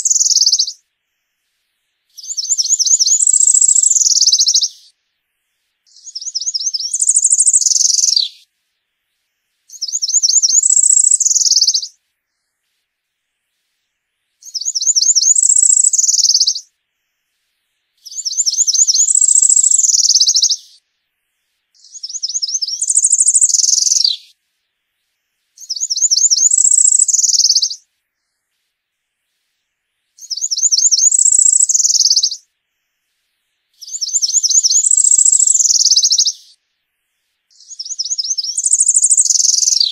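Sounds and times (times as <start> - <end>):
bird singing buzzy song: 0.0 - 1.4, 2.0 - 5.0, 5.8 - 8.6, 9.2 - 12.8, 13.6 - 20.9, 21.7 - 28.7, 29.4 - 39.9.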